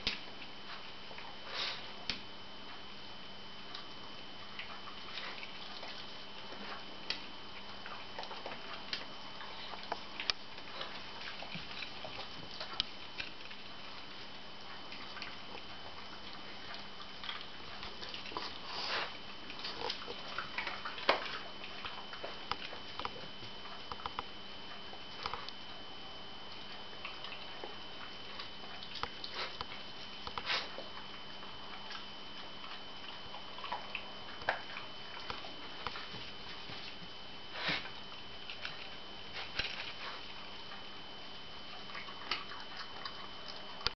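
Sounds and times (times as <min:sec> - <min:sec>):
dog chewing and licking: 0:03.7 - 0:43.9.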